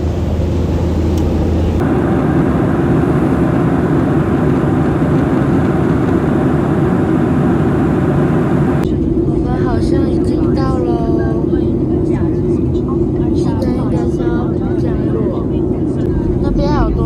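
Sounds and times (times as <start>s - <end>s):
airliner cabin engine and airflow noise: 0.0s - 17.0s.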